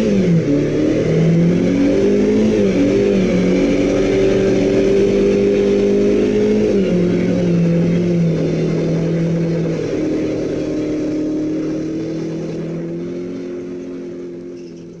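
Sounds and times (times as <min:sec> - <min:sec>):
car engine at steady revs: 0:00.0 - 0:15.0.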